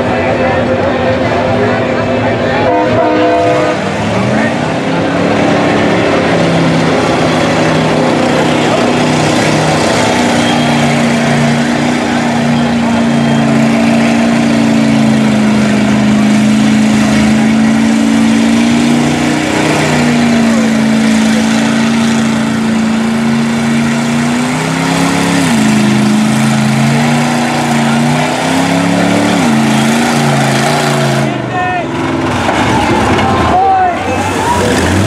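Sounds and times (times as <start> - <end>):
truck engine revving in mud: 0.0 - 35.0.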